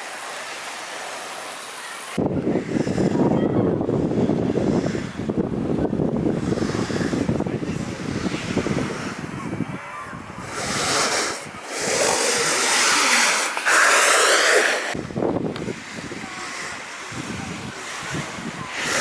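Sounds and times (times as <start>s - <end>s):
snowboard edge carving snow: 0.0s - 19.0s
wind rushing over microphone: 2.1s - 19.0s.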